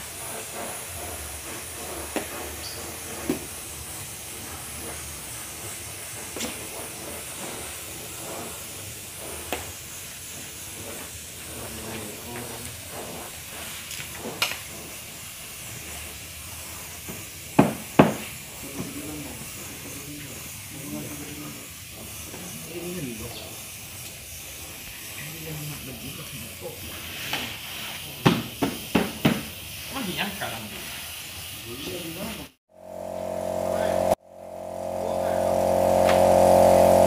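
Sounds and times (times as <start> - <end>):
spray gun hissing: 0.0 - 37.0.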